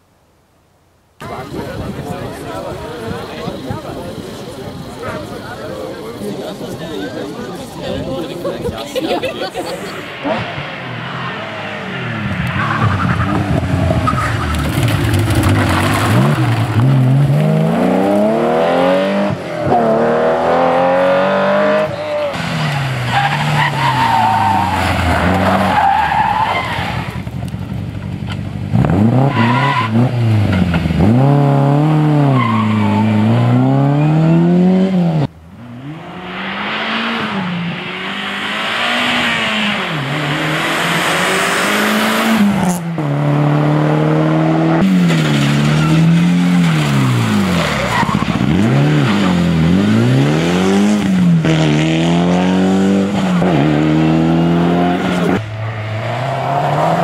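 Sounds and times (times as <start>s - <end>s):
rally car engines revving: 1.2s - 57.0s.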